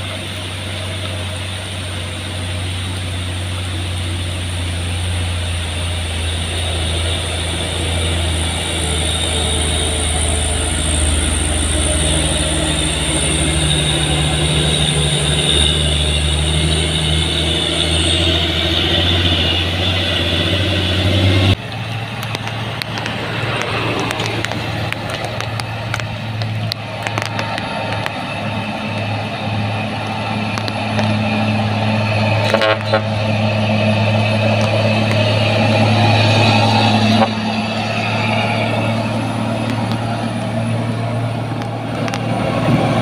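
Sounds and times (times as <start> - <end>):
heavy truck diesel engine: 0.0 - 43.0
high whine: 0.0 - 43.0
truck approaching: 0.0 - 43.0.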